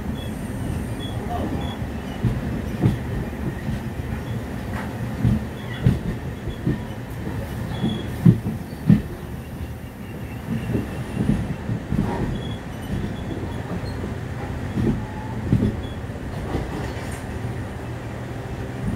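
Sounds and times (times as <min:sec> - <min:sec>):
train rumbling on track: 0:00.0 - 0:18.9.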